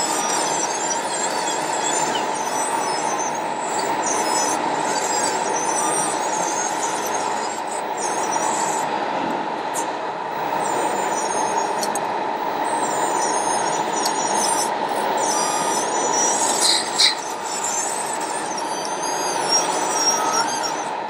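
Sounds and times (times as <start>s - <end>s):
high-pitched motor whine: 0.0s - 21.0s.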